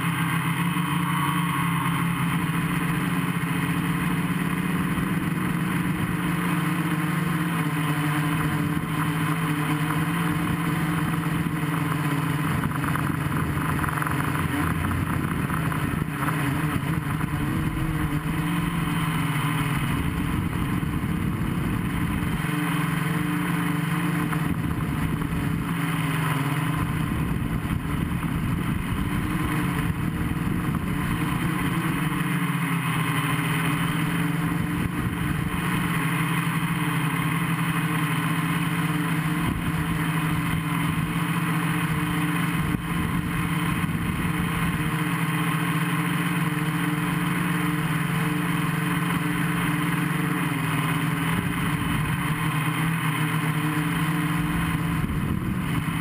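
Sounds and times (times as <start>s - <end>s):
quadcopter motors buzzing: 0.0s - 56.0s.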